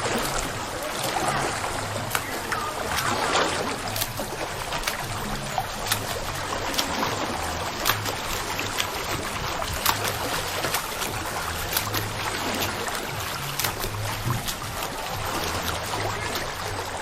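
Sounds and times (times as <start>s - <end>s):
background music with bass: 0.0s - 17.0s
water pouring and splashing: 0.0s - 17.0s.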